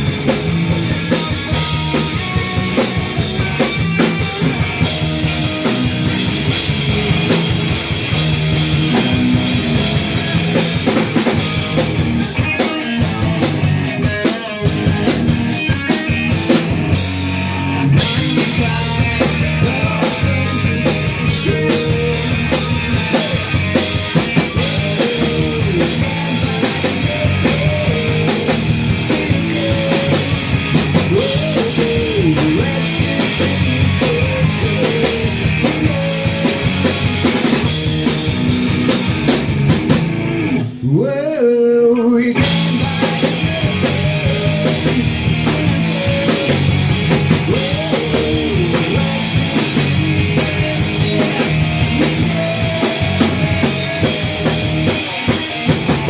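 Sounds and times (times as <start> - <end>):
punk rock band playing: 0.0 - 56.0.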